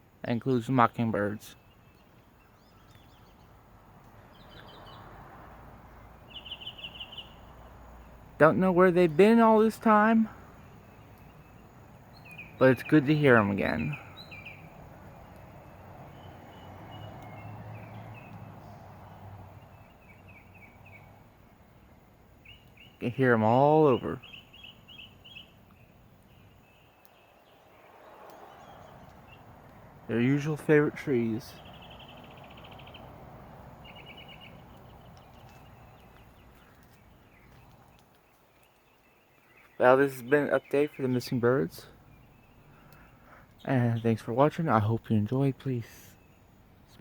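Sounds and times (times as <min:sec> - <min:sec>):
birdsong: 0:00.0 - 0:47.0
distant songbirds chirping: 0:00.0 - 0:47.0.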